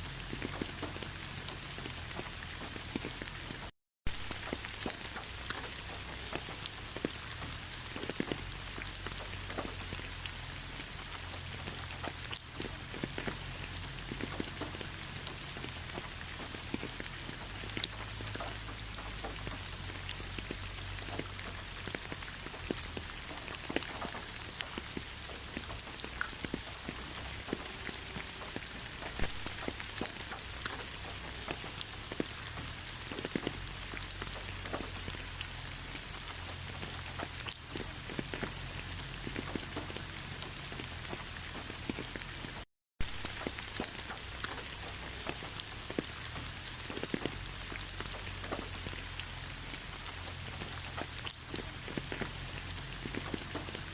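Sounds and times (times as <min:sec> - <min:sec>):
rain drops ticking on hard surface: 0:00.0 - 0:53.9
steady rain hiss: 0:00.0 - 0:53.9.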